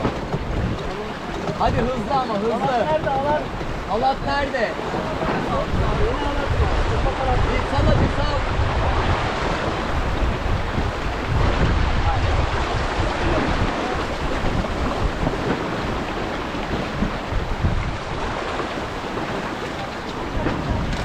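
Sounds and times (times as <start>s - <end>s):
water rushing along hull: 0.0s - 21.0s
wind buffeting microphone: 0.0s - 21.0s.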